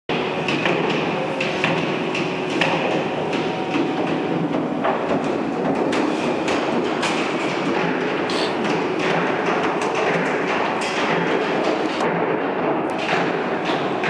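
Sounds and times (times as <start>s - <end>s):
workshop background noise: 0.1s - 14.0s.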